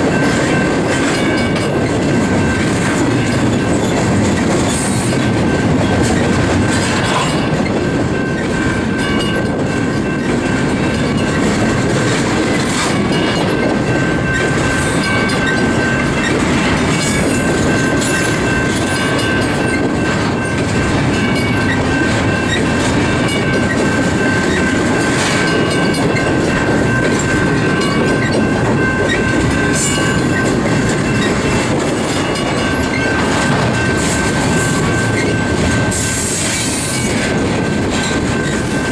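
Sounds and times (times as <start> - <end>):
freight train rolling past: 0.0 - 38.9
wheels clicking over rail joints: 0.0 - 38.9.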